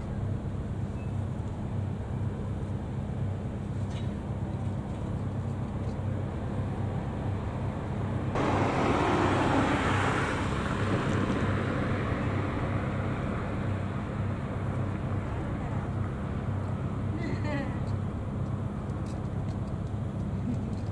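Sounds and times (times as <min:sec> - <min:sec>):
rushing road and wind noise: 0:00.0 - 0:20.9
traffic: 0:00.0 - 0:20.9
engine humming: 0:00.3 - 0:20.9.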